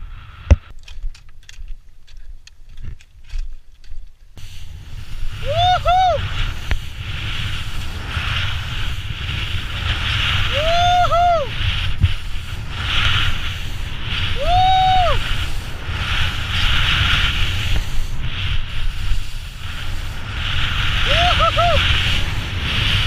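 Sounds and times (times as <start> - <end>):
skis scraping through snow: 4.4 - 23.0
wind rumble on microphone: 4.4 - 23.0.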